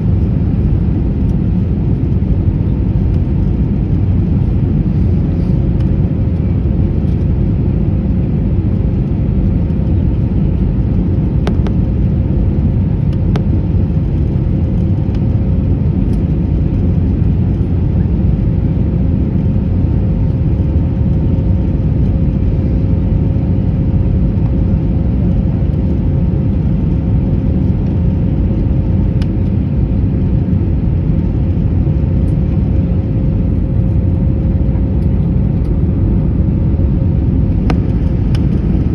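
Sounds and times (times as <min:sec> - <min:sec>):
airplane cabin rumble and whine: 0:00.0 - 0:38.9.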